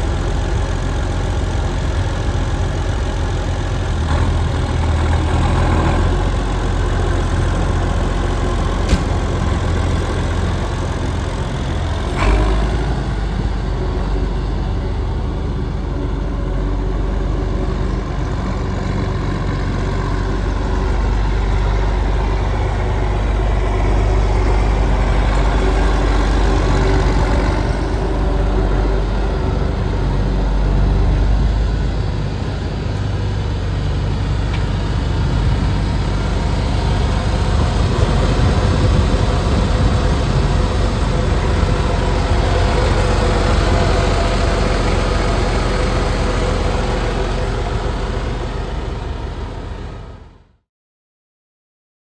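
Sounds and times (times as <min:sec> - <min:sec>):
tractor diesel engine idling: 0:00.0 - 0:50.4.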